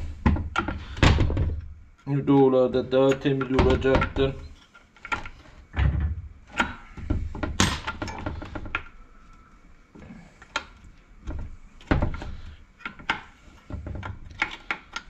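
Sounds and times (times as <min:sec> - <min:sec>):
tools and parts clunking: 0:00.0 - 0:15.0.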